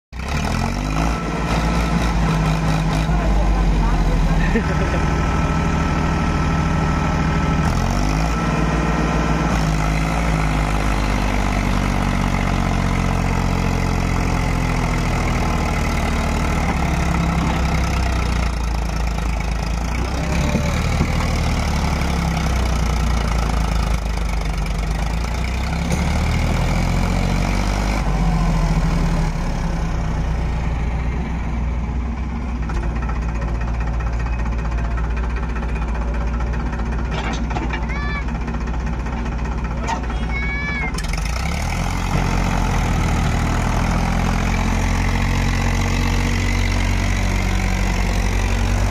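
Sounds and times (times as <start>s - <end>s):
tractor diesel engine revving: 0.1s - 48.9s.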